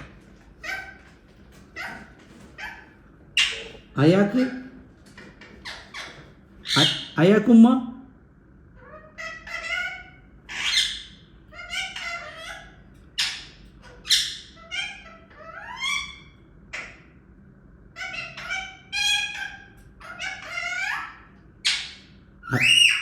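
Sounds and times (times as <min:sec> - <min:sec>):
parrot squawking: 0:00.0 - 0:07.5, 0:08.8 - 0:17.2, 0:17.9 - 0:23.0.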